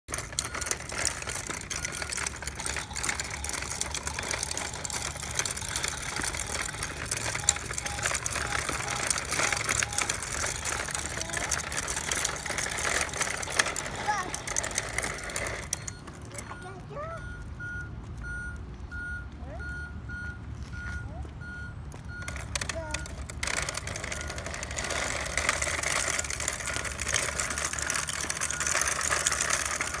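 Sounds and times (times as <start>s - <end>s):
toy truck wheels rattling on bricks: 0.1s - 17.0s, 22.1s - 30.0s.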